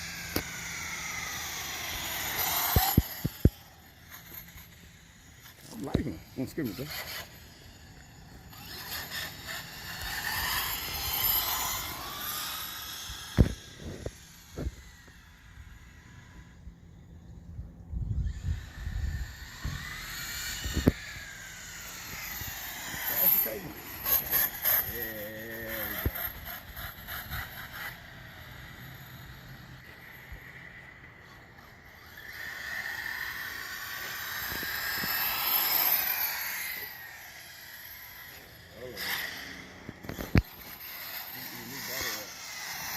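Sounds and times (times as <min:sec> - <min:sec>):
toy truck motor whining: 0:00.0 - 0:17.2, 0:18.1 - 0:42.9.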